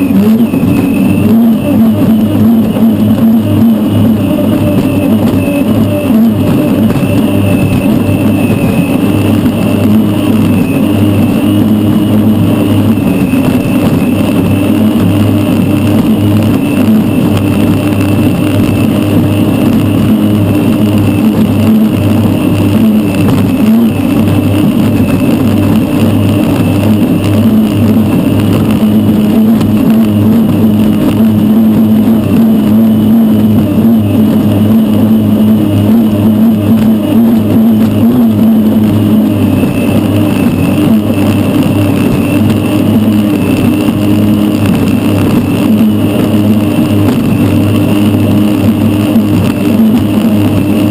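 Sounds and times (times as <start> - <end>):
gas turbine drone and whine: 0.0 - 50.9
wind and spray rushing: 0.0 - 50.9.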